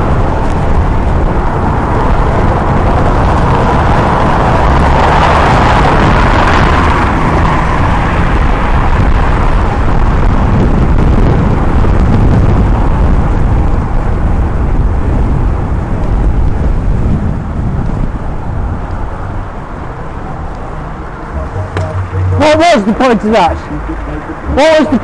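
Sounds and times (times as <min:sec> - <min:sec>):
road noise: 0:00.0 - 0:25.0
wind buffeting microphone: 0:00.0 - 0:25.0.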